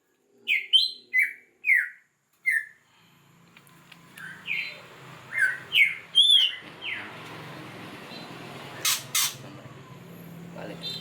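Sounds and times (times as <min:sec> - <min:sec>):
songbird chirping: 0:00.0 - 0:02.8, 0:03.7 - 0:11.0.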